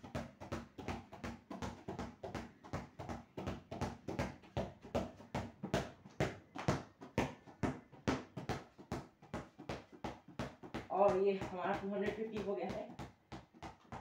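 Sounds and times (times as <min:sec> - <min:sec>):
ball bouncing on hard floor: 0:00.0 - 0:14.0.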